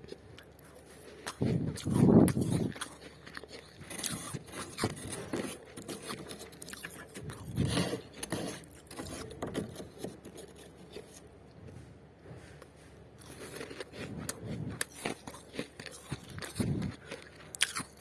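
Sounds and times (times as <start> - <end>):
frost crunching and crackling: 0.0 - 11.2, 13.2 - 18.0.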